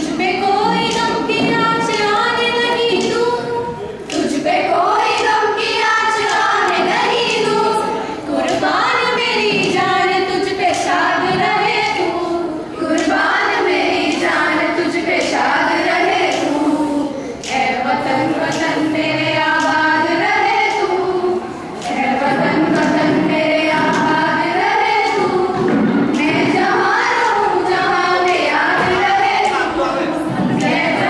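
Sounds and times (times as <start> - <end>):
girls singing into microphones: 0.0 - 31.0.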